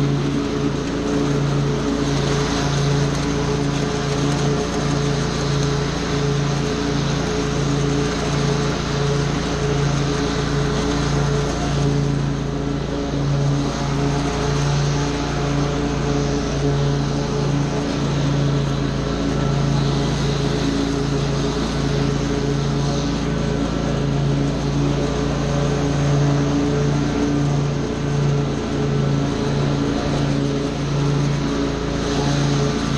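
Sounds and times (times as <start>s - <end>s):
small petrol engine droning: 0.0s - 32.9s.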